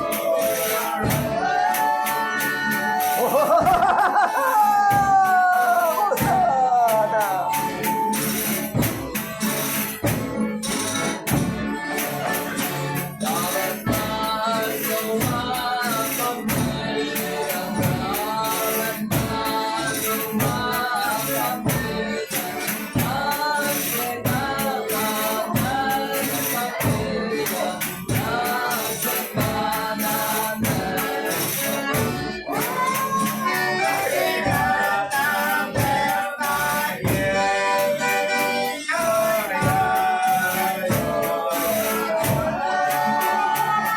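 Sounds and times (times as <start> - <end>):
tambourine and shaker beat: 0.0 - 43.9
voices singing together: 0.0 - 43.9.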